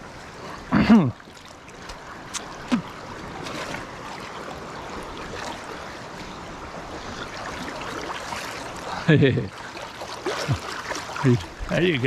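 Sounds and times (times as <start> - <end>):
light water splashes: 0.0 - 12.0
river water through rapids: 0.0 - 12.0.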